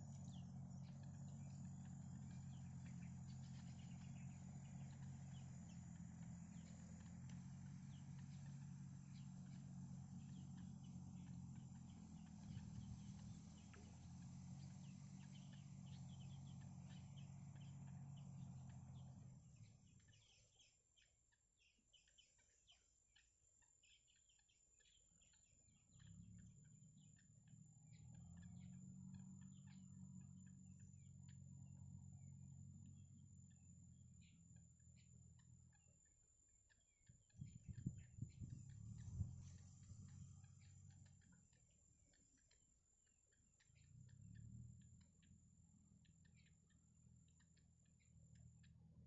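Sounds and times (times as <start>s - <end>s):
ticking bird calls: 0.0s - 31.8s, 32.8s - 48.8s
low steady hum: 0.0s - 49.0s.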